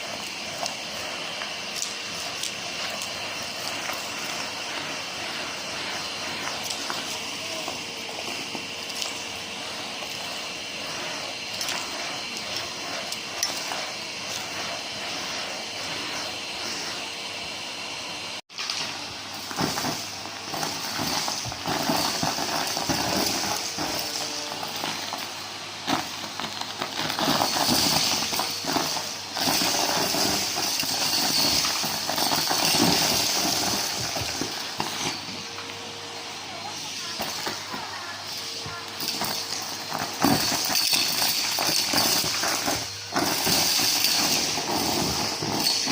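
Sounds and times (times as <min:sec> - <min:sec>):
debris rattling through hose: 0:00.0 - 0:16.5, 0:18.5 - 0:45.9
vacuum cleaner humming: 0:00.0 - 0:45.9.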